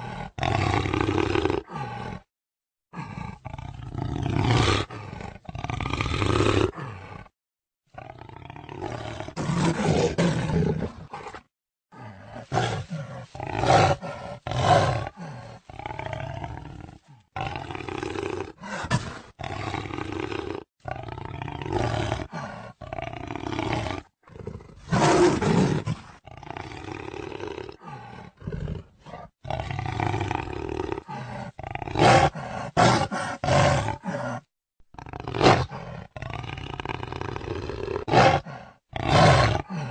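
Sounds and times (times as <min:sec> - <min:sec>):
jaguar roaring: 0:00.0 - 0:02.3, 0:02.9 - 0:07.3, 0:08.0 - 0:39.9.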